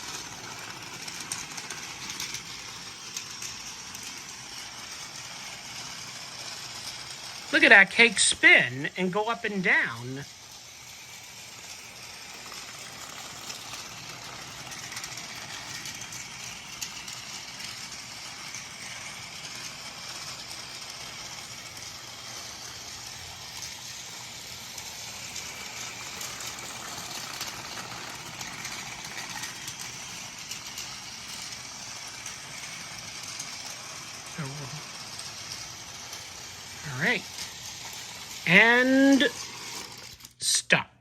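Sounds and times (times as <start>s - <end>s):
toy train rattling on track: 0.0s - 40.6s
toy train motor whirring: 0.0s - 40.8s.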